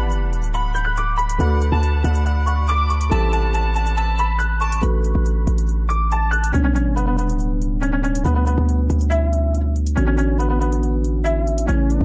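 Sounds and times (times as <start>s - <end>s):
guitar music with bass and beat: 0.0s - 12.0s.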